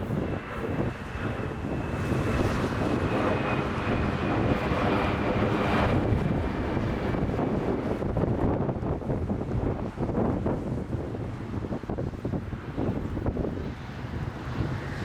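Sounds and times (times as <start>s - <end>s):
jet engines: 0.0s - 15.0s
wind buffeting microphone: 0.0s - 15.0s.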